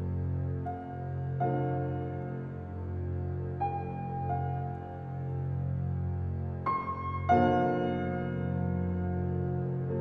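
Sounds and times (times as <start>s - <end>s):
calm keyboard music: 0.0s - 10.0s.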